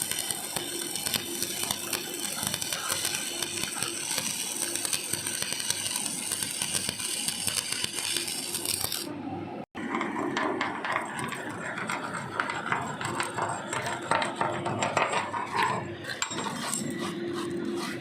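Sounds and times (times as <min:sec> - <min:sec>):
arc welding crackle and sizzle: 0:00.0 - 0:09.2, 0:09.8 - 0:18.0.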